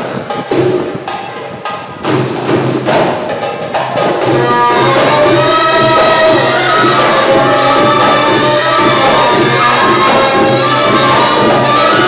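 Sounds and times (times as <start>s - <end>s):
hand percussion beat: 0.0s - 12.0s.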